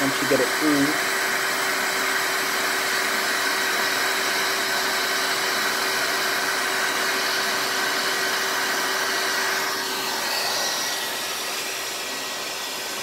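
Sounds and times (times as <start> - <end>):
filament extruder fan and motor whirring: 0.0 - 13.0.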